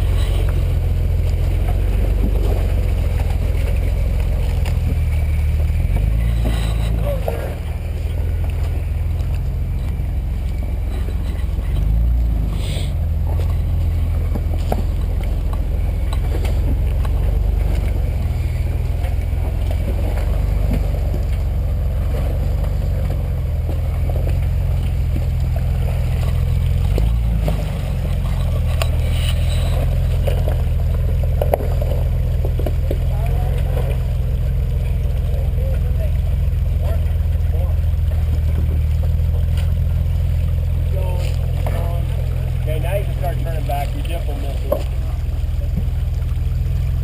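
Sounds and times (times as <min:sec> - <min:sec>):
engine running at low revs: 0:00.0 - 0:47.0.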